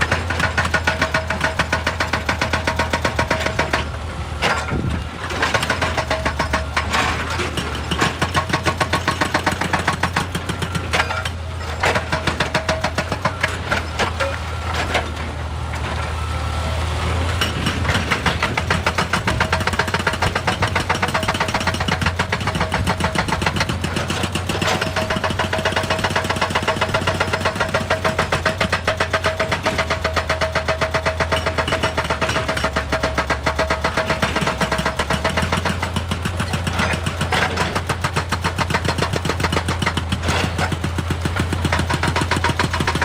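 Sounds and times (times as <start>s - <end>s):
excavator diesel engine: 0.0s - 43.0s.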